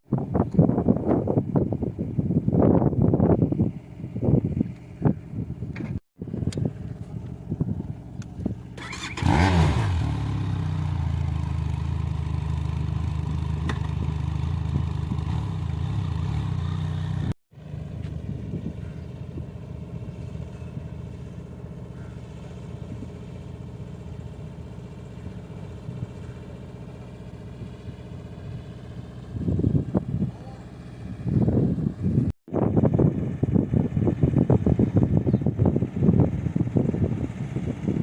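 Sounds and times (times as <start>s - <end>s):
motorcycle engine revving and running: 6.2s - 38.0s.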